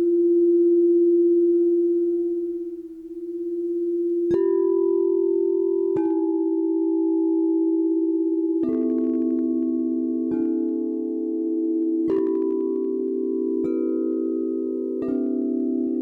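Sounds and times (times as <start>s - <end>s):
singing bowl humming: 0.0s - 16.0s.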